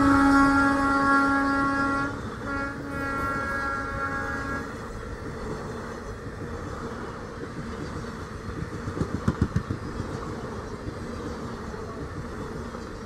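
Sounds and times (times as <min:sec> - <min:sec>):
train rumble and rush: 0:00.0 - 0:13.0
train wheels clacking: 0:00.0 - 0:13.0.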